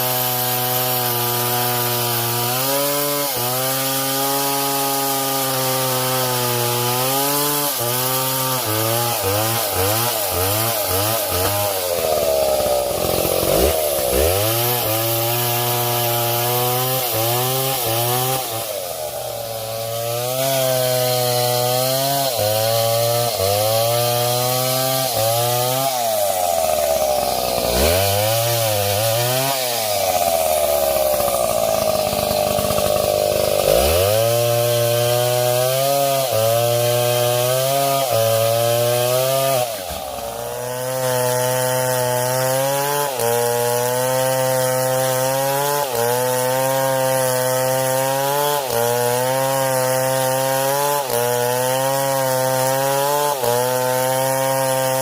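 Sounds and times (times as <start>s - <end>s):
chainsaw cutting into tree: 0.0s - 55.0s.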